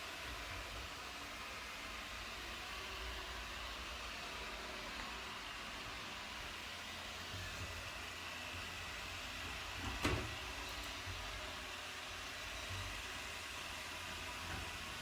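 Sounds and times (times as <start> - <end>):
robot vacuum humming: 0.0 - 15.0.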